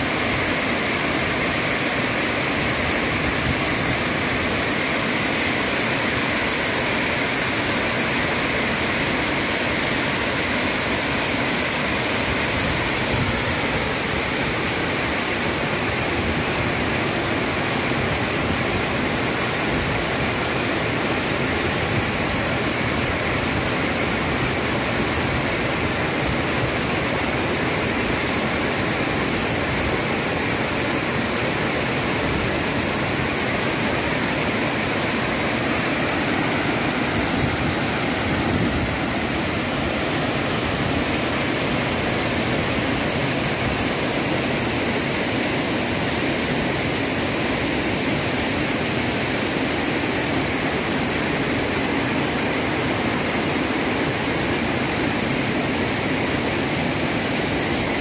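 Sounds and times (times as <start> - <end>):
waterfall rushing roar: 0.0 - 58.0.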